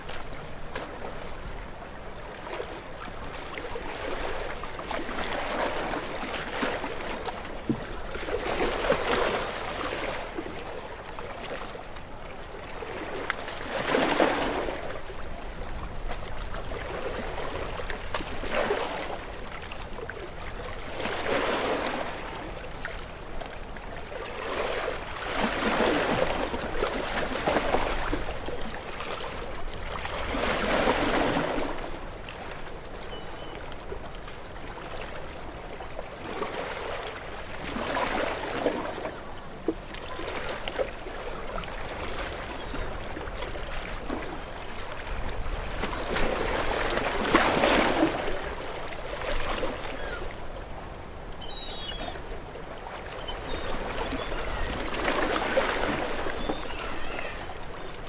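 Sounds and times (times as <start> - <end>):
small waves breaking: 0.0 - 58.0
wind: 0.0 - 58.0.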